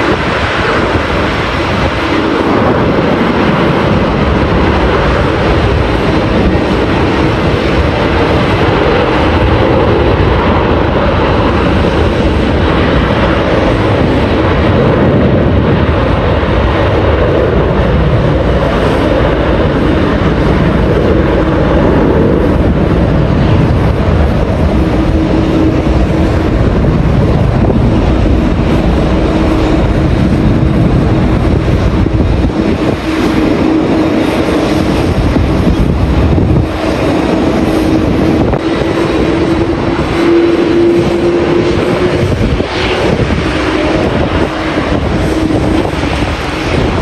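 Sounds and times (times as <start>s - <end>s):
jet engines droning: 0.0s - 47.0s
wind buffeting microphone: 0.0s - 47.0s.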